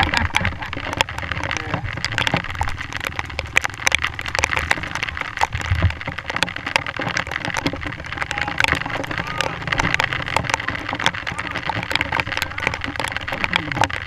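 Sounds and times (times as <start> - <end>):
dirt bike engine rumbling: 0.0 - 14.0
heavy rain: 0.0 - 14.0
raindrops ticking on camera: 0.0 - 14.0.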